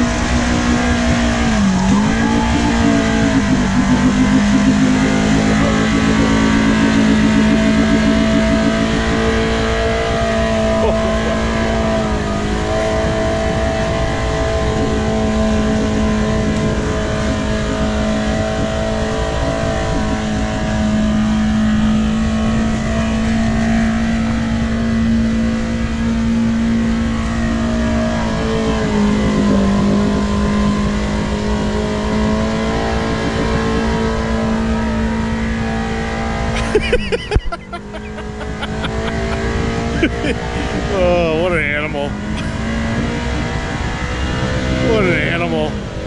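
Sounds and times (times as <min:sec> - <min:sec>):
engine at high revs: 0:00.0 - 0:46.0.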